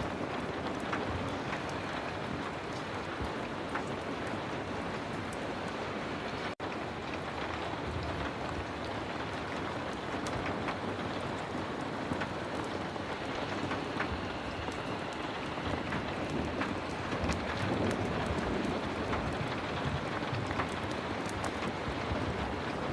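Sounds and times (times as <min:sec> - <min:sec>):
heavy rain falling: 0:00.0 - 0:22.9
sharp rain ticks: 0:00.0 - 0:22.9.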